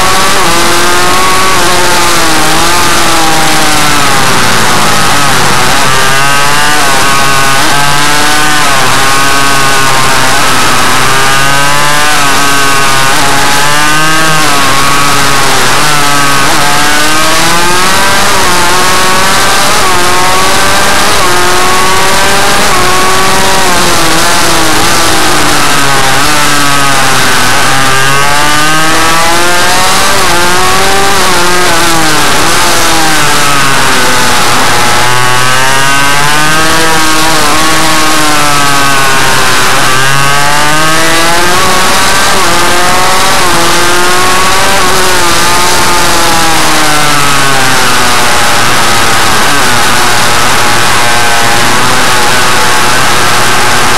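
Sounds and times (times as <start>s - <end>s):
two-stroke engine revving: 0.0s - 53.9s.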